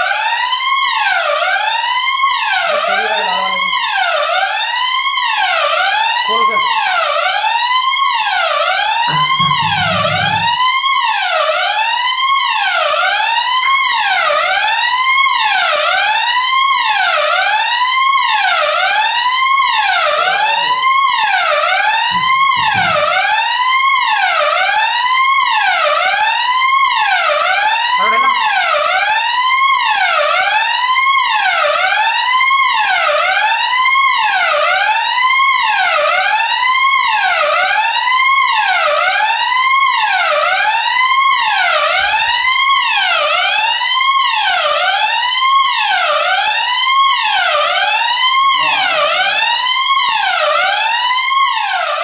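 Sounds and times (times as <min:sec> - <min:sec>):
fire alarm siren: 0:00.0 - 0:52.0.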